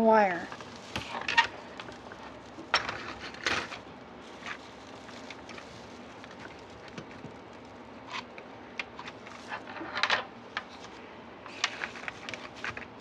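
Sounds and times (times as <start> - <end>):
ornaments and garland rustling: 0.0 - 13.0.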